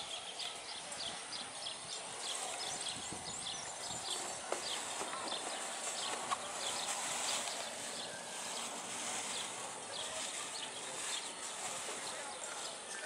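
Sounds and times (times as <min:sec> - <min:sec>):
birds chirping: 0:00.0 - 0:13.0
steady hiss: 0:00.0 - 0:13.0.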